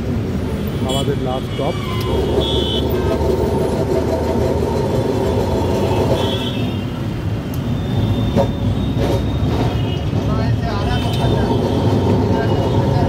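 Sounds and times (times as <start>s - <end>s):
tram wheels rumbling on rail: 1.8s - 13.0s.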